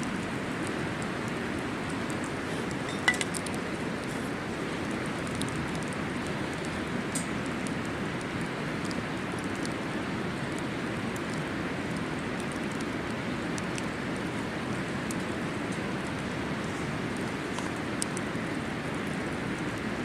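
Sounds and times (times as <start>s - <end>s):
campfire crackling and popping: 0.0s - 20.0s
steady rushing background noise: 0.0s - 20.0s.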